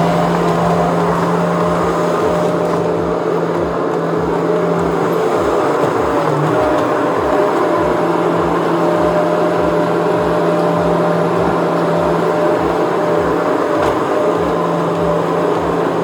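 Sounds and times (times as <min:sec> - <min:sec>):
skid steer engine droning: 0:00.0 - 0:16.0.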